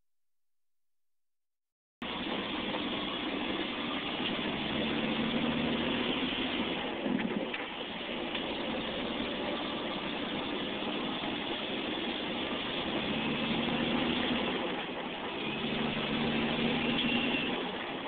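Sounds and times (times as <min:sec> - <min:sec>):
engine hum: 0:02.0 - 0:18.0.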